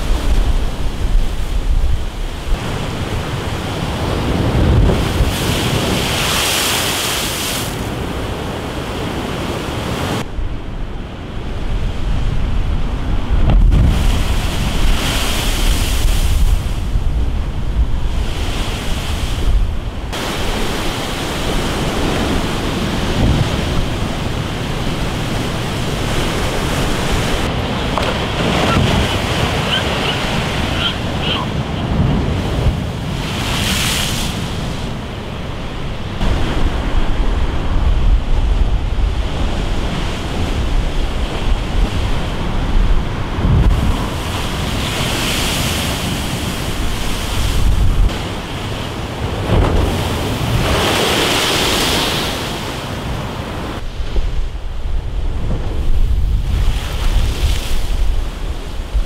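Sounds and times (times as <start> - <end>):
surf crashing on sea wall: 0.0 - 59.0
wind buffeting microphone: 0.0 - 59.0.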